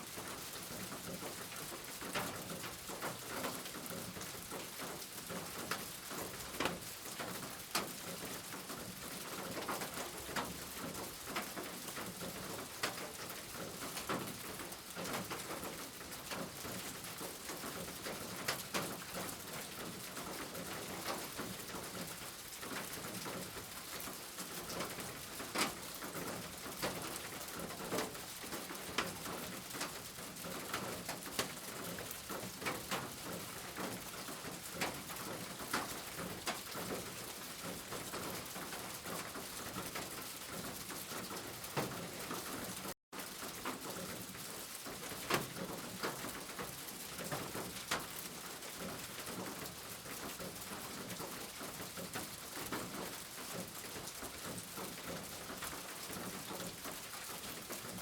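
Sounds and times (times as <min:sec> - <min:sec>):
steady rain falling: 0:00.0 - 0:58.0
raindrops ticking close by: 0:00.1 - 0:58.0.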